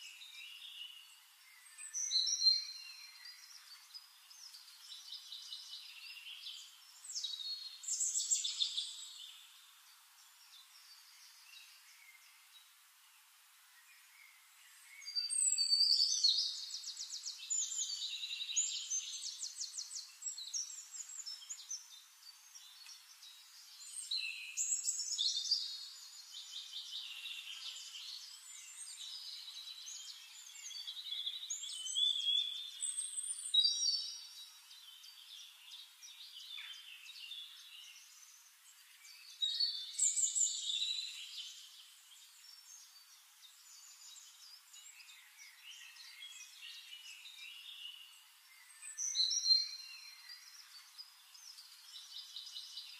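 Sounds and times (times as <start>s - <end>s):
songbirds trilling and chirping: 0.0s - 52.9s.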